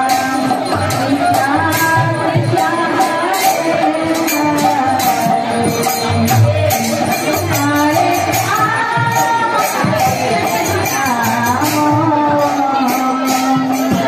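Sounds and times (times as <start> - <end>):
devotional singing: 0.0 - 14.0
jingling hand cymbals: 0.0 - 14.0
steady drum beat: 0.0 - 14.0.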